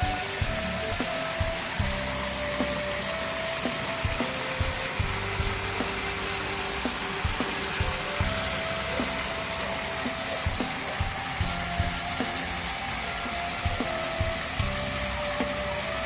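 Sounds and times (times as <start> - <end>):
water pouring into bucket: 0.0 - 16.0.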